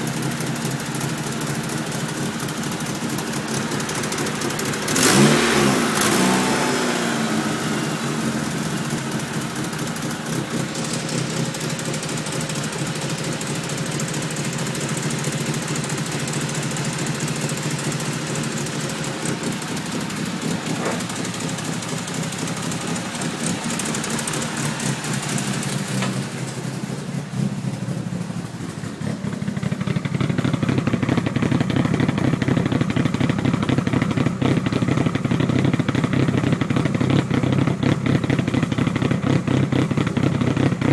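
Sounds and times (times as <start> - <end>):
car engine idling rough: 0.0 - 40.9.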